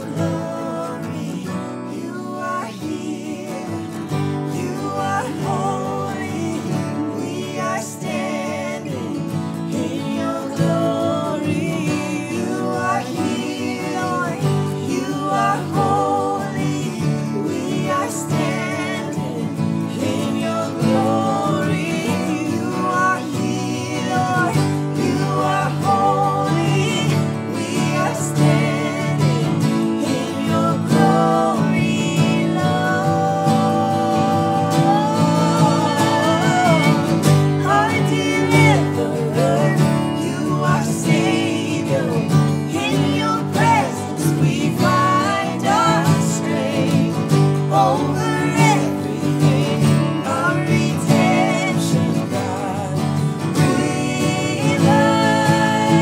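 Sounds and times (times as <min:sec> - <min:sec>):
guitar: 0:00.0 - 0:56.0
person singing: 0:00.0 - 0:56.0.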